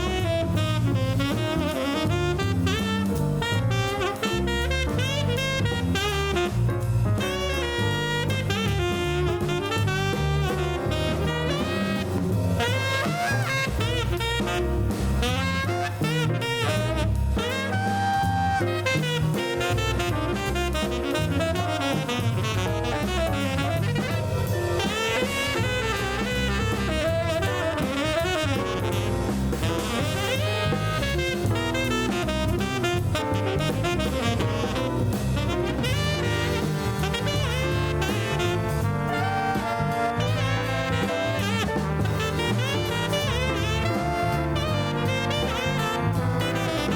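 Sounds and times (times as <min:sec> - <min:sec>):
instrumental jazz music: 0:00.0 - 0:46.9.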